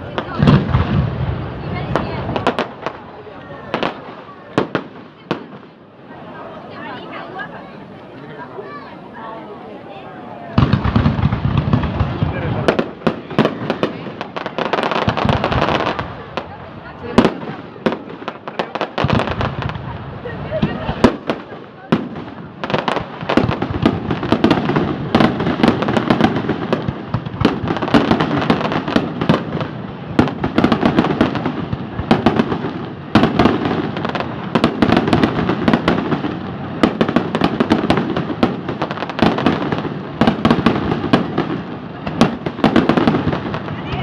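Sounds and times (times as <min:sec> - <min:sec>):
fireworks bangs and crackles: 0:00.0 - 0:08.9, 0:09.9 - 0:44.0.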